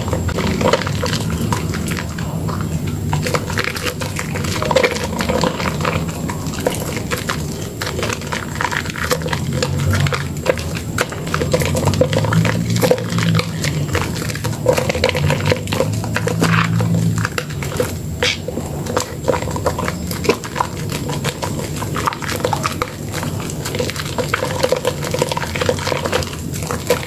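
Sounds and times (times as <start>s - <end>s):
foam bubbles crackling: 0.0s - 27.0s
wet soap squelching in hands: 0.0s - 27.0s.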